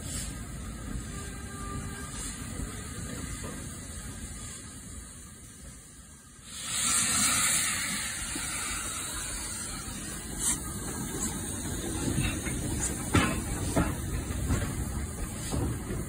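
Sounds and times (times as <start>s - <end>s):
model locomotive steam hiss: 0.0s - 13.5s.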